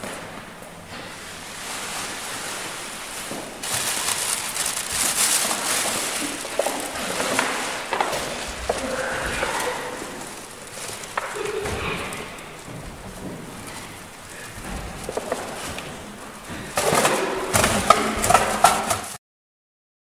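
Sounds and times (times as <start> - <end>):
plastic sacks rustling: 0.0 - 19.2.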